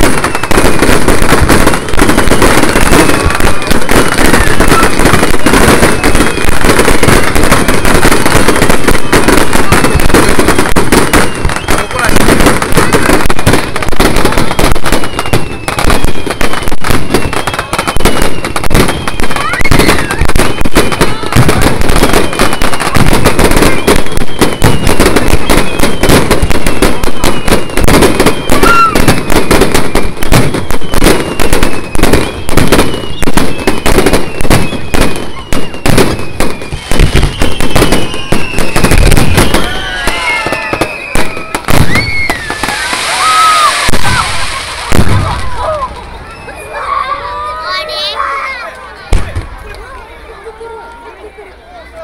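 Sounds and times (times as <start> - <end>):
fireworks bursting and crackling: 0.0 - 51.5.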